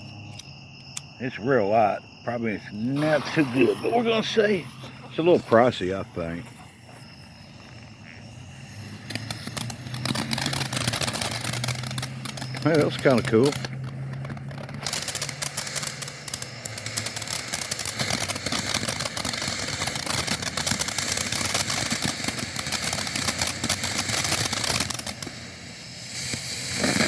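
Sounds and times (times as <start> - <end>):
firework crackling: 1.6 - 27.0.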